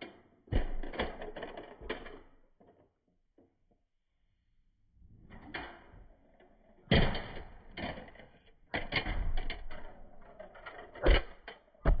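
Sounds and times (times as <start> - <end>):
toy cars knocking and rattling: 0.0 - 3.7, 5.4 - 12.0.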